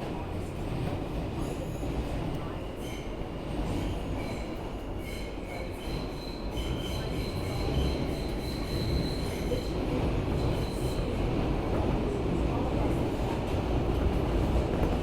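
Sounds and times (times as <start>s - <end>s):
subway wheels rumbling on rail: 0.0s - 15.0s.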